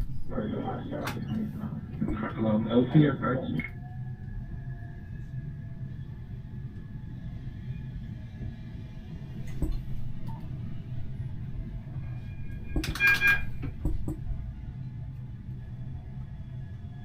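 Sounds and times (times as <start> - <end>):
tram cab low hum: 0.0 - 17.0.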